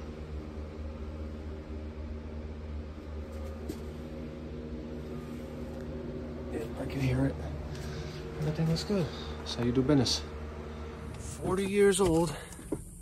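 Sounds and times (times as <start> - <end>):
water heater humming: 0.0 - 13.0.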